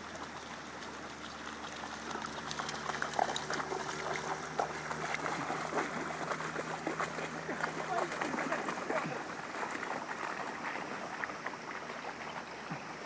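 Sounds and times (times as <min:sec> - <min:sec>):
dog splashing through water: 0:00.0 - 0:13.0.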